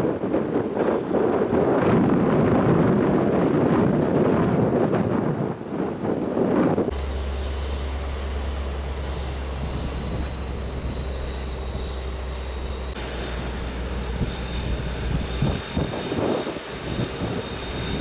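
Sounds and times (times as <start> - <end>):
rushing noise: 0.0 - 18.0
low rumble: 1.8 - 18.0.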